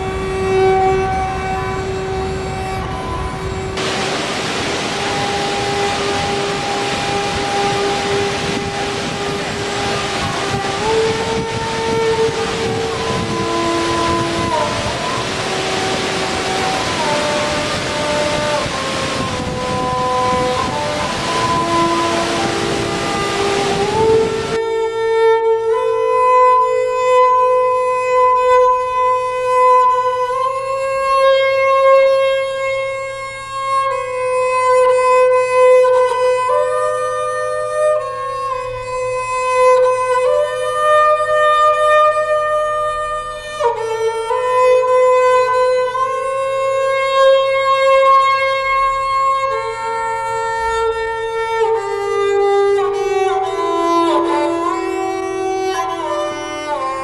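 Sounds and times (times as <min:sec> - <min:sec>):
slow calm instrumental music: 0:00.0 - 0:57.0.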